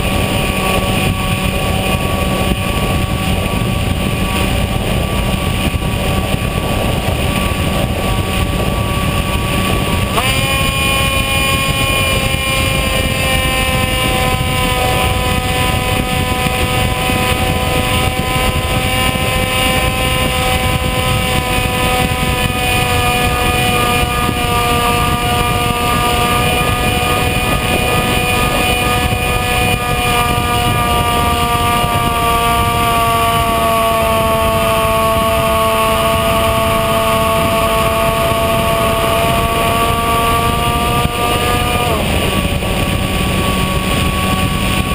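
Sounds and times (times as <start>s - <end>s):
electric motor and propeller whining: 0.0s - 44.9s
wind rush on microphone: 0.0s - 44.9s.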